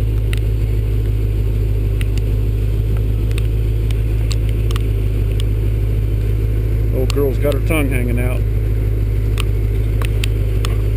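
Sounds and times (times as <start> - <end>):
engine running: 0.0 - 10.9
faint engine ticks: 0.0 - 10.9.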